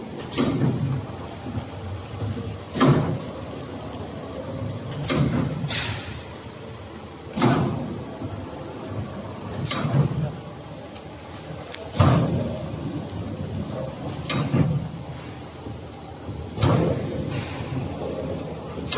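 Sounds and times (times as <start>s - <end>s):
machine running noise: 0.0s - 18.9s.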